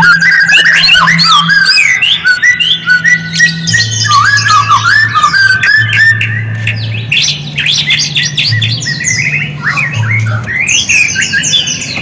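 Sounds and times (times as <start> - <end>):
bird chirping and whistling: 0.0 - 12.0
low electrical hum: 0.0 - 12.0.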